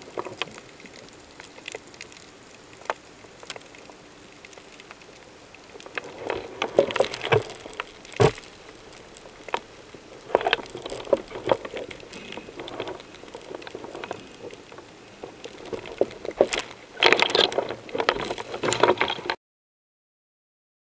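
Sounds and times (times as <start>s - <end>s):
underwater bubbling and clicks: 0.0s - 19.4s.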